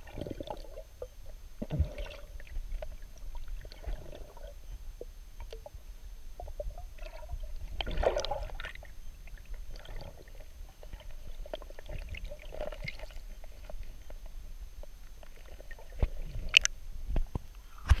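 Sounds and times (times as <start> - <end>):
underwater sloshing and gurgling: 0.0 - 18.0.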